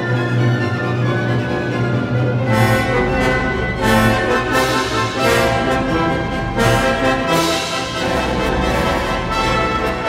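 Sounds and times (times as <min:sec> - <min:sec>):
orchestral music with brass chords: 0:00.0 - 0:10.0.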